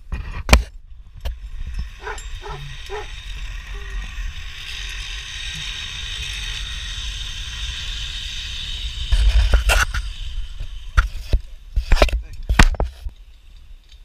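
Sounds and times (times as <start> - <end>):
trolley wheels whirring on cable: 0.7 - 14.0.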